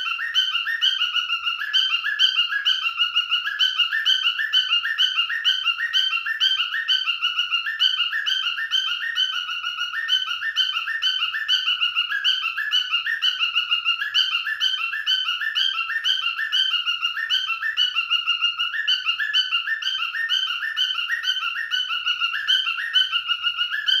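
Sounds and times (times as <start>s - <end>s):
cockatiel whistling and chirping: 0.0s - 24.0s.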